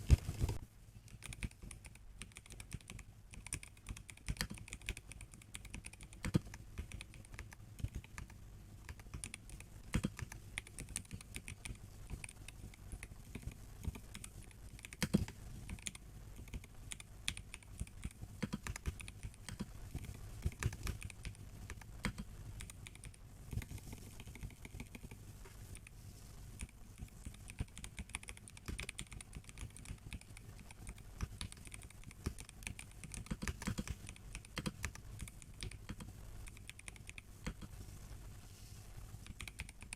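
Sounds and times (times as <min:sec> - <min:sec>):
mechanical keyboard typing: 0:00.5 - 0:25.2, 0:26.6 - 0:37.7, 0:39.2 - 0:39.9.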